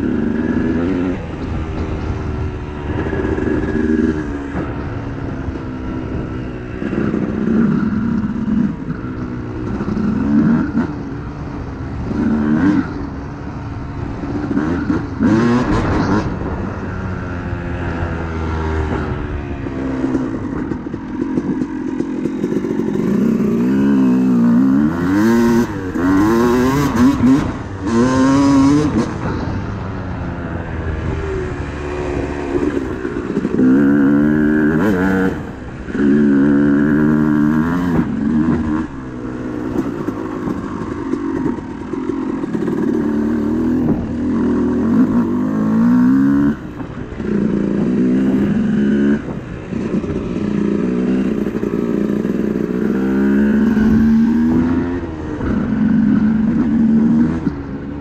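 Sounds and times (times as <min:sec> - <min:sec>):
dirt bike engine revving: 0:00.0 - 0:29.8, 0:30.8 - 0:58.0.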